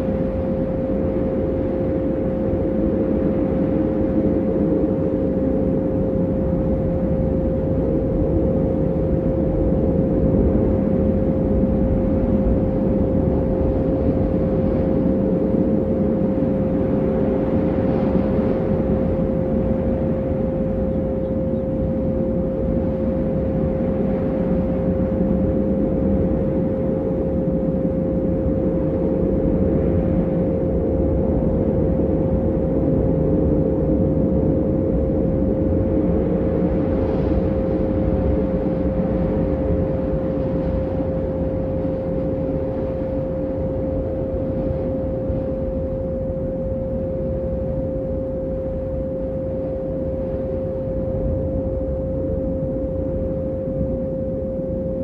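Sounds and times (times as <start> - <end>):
low rumbling drone: 0.0 - 55.0
steady pure tone: 0.0 - 55.0.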